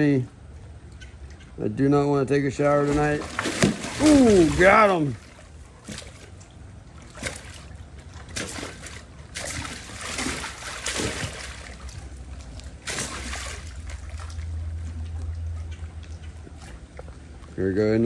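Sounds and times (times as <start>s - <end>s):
water splashing and sloshing: 2.5s - 18.0s.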